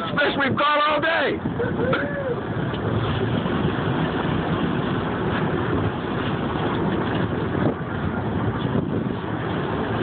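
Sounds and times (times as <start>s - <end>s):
boat engine running: 0.0s - 10.0s
water noise: 0.0s - 10.0s
wind: 0.0s - 10.0s.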